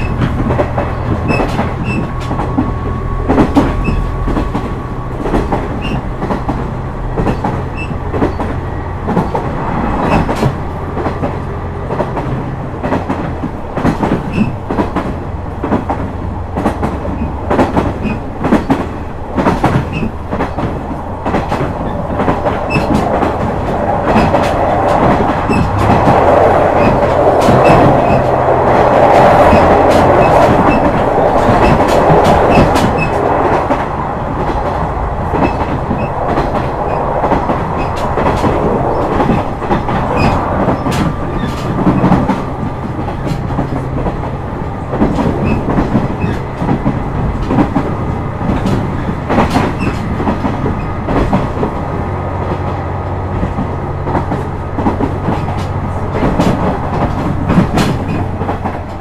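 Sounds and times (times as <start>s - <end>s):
rushing noise: 0.0s - 59.0s
wheels clicking over rail joints: 0.0s - 59.0s.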